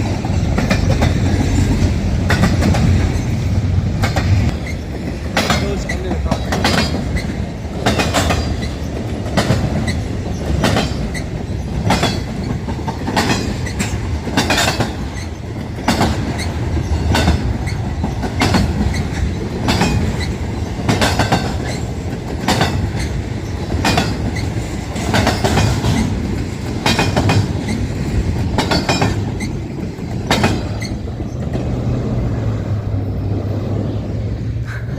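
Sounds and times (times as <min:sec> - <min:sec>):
train wheels clacking over rail joints: 0:00.0 - 0:32.4
steady train rumble: 0:00.0 - 0:34.9.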